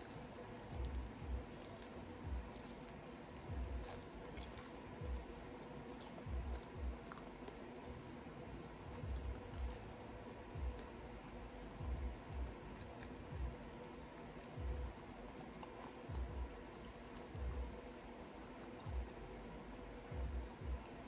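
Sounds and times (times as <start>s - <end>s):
person chewing food: 0.0s - 8.0s, 11.6s - 21.0s.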